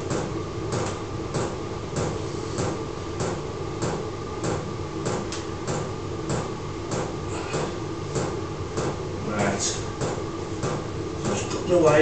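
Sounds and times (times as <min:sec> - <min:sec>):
heater fan and burner rushing: 0:00.0 - 0:12.0.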